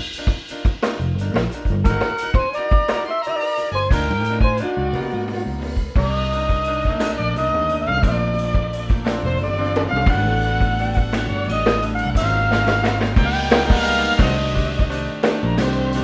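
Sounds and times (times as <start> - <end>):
electric bass: 0.0 - 2.6, 3.6 - 16.0
drum kit: 0.0 - 16.0
keyboards: 0.0 - 16.0
violin: 1.3 - 16.0
soprano saxophone melody: 1.9 - 16.0.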